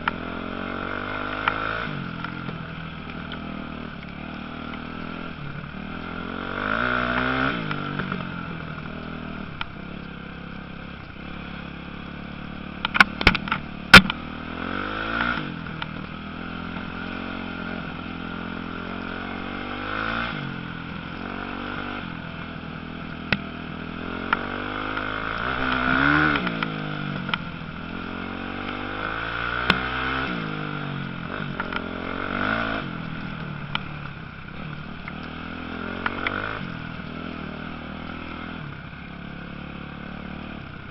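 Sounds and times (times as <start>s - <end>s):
background engine drone: 0.0s - 40.9s
motorcycle engines revving: 0.0s - 40.9s.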